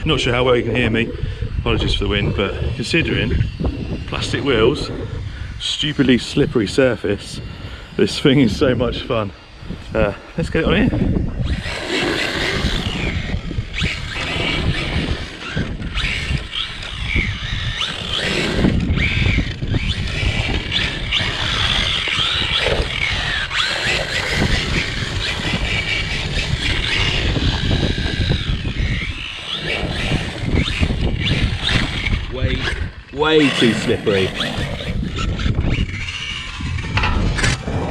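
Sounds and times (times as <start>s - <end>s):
electric motor whining: 0.0s - 37.9s
wind buffeting microphone: 0.0s - 37.9s.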